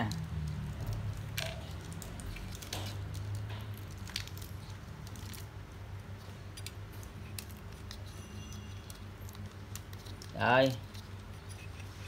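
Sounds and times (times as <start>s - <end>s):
plastic parts clicking and rustling: 0.0s - 12.0s.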